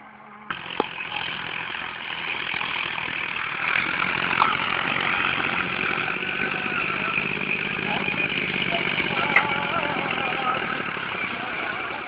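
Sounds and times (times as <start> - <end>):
diesel tractor engine running: 0.4 - 12.0.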